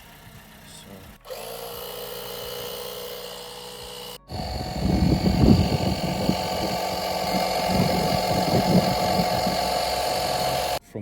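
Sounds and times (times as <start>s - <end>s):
air compressor humming: 0.0s - 10.8s.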